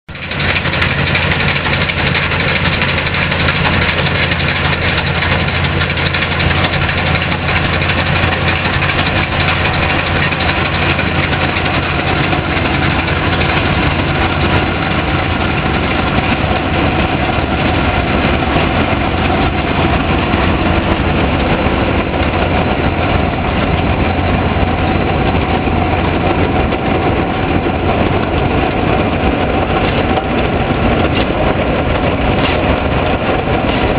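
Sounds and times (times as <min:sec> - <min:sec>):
combine harvester running: 0:00.1 - 0:33.9.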